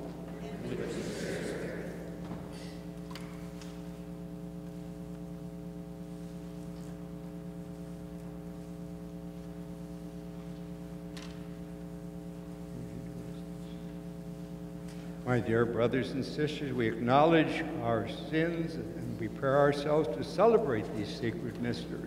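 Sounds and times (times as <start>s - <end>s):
steady low tone hum: 0.0s - 22.0s.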